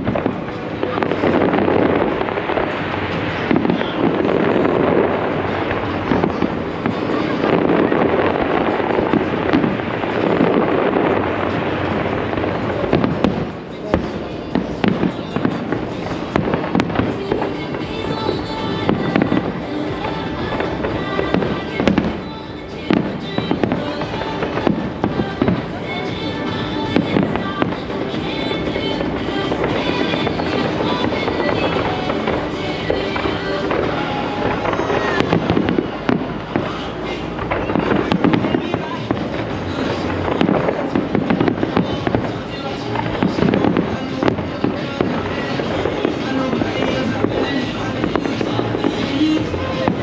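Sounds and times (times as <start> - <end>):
fireworks bursts and crackle: 0.0 - 50.0
music playing: 0.0 - 50.0
sharp firework bangs: 0.0 - 50.0.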